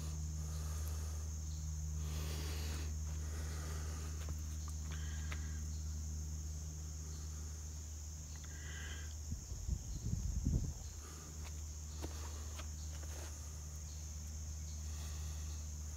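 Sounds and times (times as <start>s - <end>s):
faint chirps: 0.0s - 15.9s
insect chorus: 0.0s - 15.9s
low steady hum: 0.0s - 15.9s.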